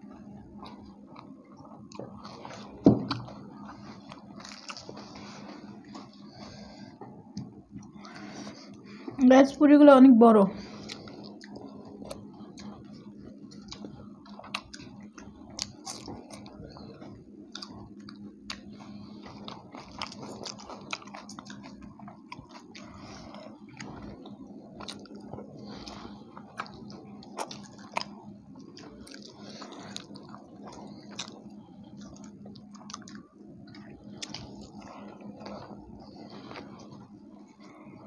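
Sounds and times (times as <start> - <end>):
people chewing and biting: 0.0 - 9.2, 10.6 - 38.0
low hum: 0.0 - 38.0.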